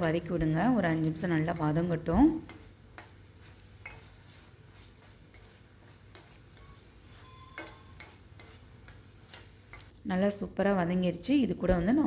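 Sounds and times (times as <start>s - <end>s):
spoon scraping a pan: 0.0s - 10.0s
fruit frying in a pan: 0.0s - 11.2s.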